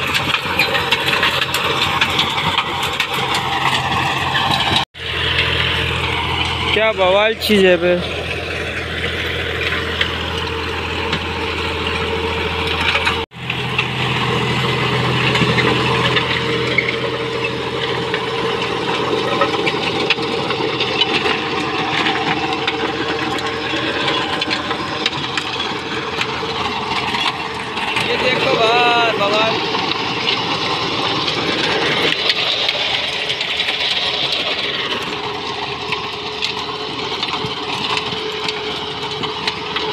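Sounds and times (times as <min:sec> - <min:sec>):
rotavator churning soil: 0:00.0 - 0:39.9
tractor diesel engine running: 0:00.0 - 0:39.9.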